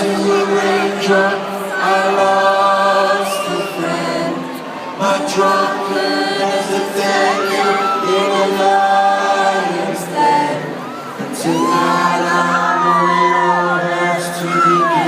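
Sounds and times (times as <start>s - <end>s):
crowd shouts and whistles: 0.0s - 15.0s
crowd singing sustained melody: 0.0s - 15.0s.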